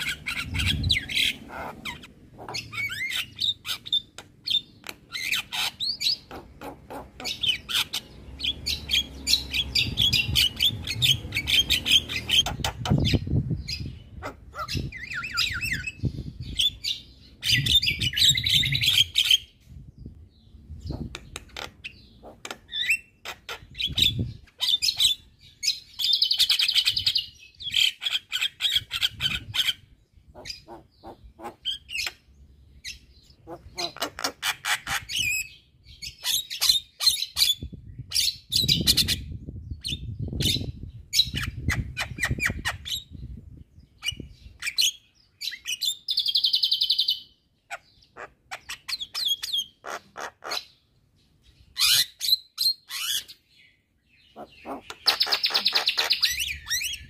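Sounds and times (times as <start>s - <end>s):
myna bird chattering: 0.0s - 19.6s, 20.8s - 43.2s, 44.0s - 50.8s, 54.2s - 57.0s.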